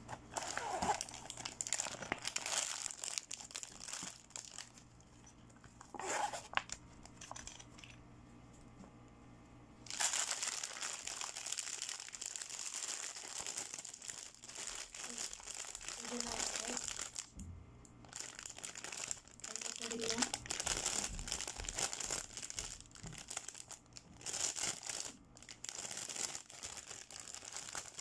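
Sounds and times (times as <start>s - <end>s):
plastic packaging crinkling: 0.1s - 7.8s, 9.8s - 17.3s, 18.0s - 28.0s.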